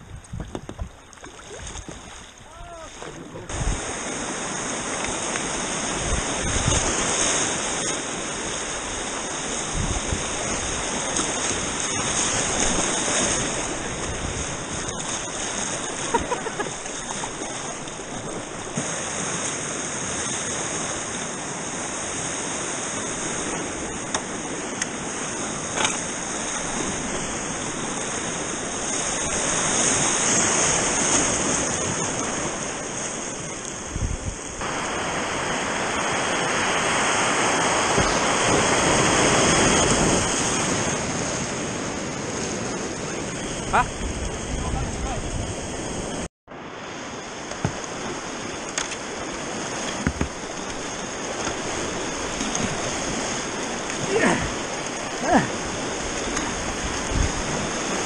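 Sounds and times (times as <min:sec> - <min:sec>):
rushing whitewater: 0:01.1 - 0:58.0.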